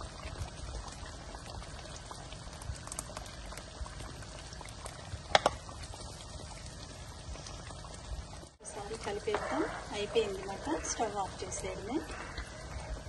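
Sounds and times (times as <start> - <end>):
thick sauce bubbling with pops: 0.0 - 13.0.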